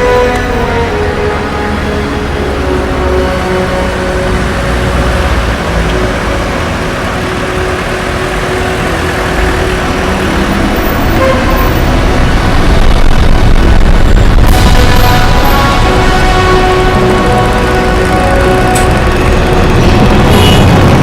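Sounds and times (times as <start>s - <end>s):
cinematic music with low chords: 0.0s - 21.0s
heavy rumbling bass: 0.0s - 21.0s.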